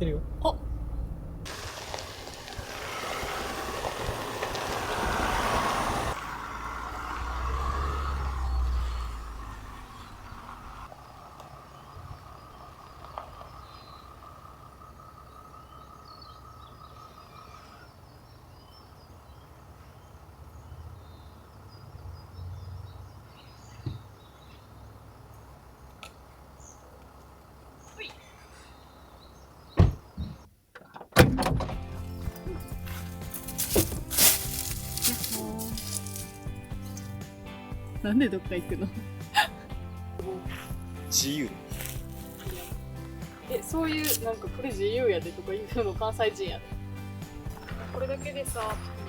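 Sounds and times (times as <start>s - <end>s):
vehicle low rumble: 0.0s - 30.4s, 31.6s - 49.0s
birds chirping: 0.0s - 30.6s, 31.8s - 49.0s.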